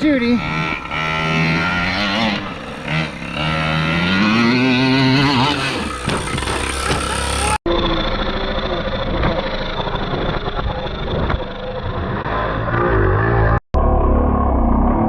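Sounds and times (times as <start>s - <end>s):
small two-stroke engine revving: 0.0s - 13.6s.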